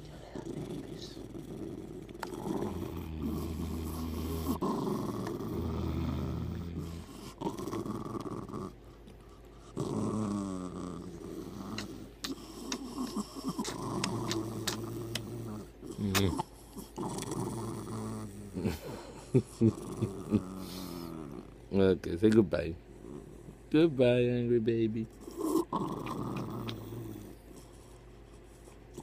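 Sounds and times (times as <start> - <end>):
dog growling low: 0.0 - 21.7, 22.9 - 23.7, 25.1 - 27.8.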